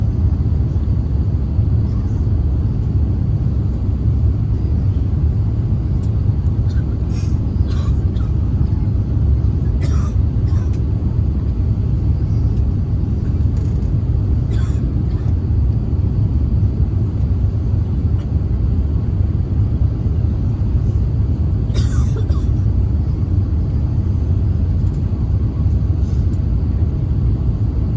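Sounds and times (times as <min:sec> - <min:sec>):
airliner cabin engine rumble: 0:00.0 - 0:27.9.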